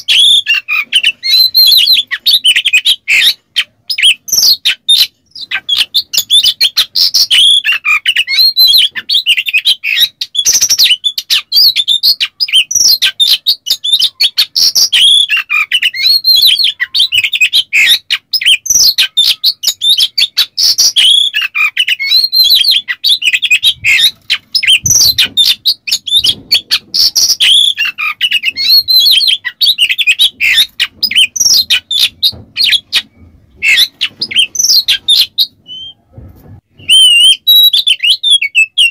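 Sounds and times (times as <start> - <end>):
bird singing whistled notes and rattles: 0.0 - 38.9.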